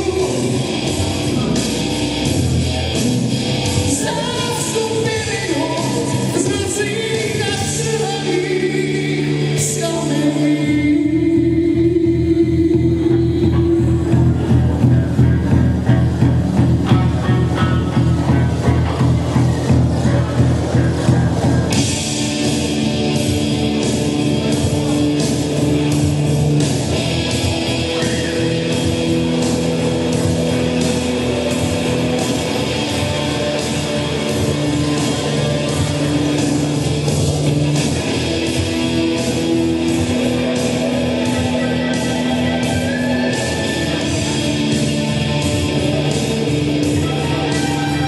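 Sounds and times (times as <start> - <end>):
live rock music with guitar: 0.0 - 48.0.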